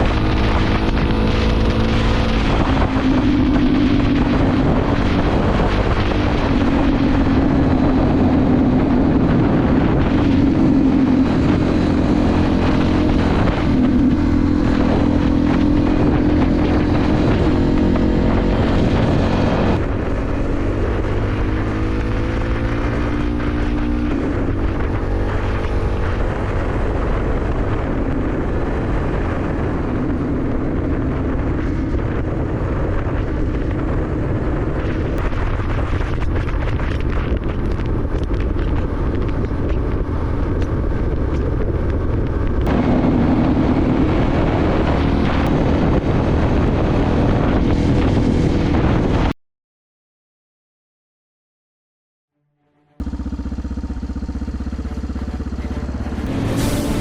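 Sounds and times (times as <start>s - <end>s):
motorcycle engine running: 0.0s - 49.3s, 53.0s - 57.0s
wind on microphone: 0.0s - 49.4s, 53.0s - 57.0s.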